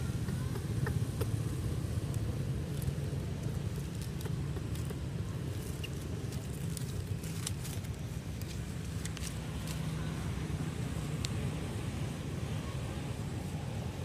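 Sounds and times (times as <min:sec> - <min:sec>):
low outdoor rumble: 0:00.0 - 0:14.0
dry leaves crackling: 0:01.4 - 0:14.0.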